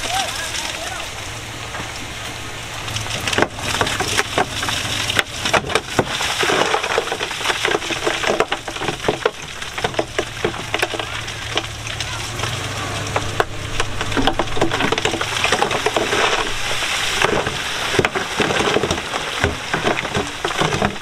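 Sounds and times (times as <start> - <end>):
diesel engine hum: 0.0 - 21.0
stones crunching and cracking: 2.8 - 21.0.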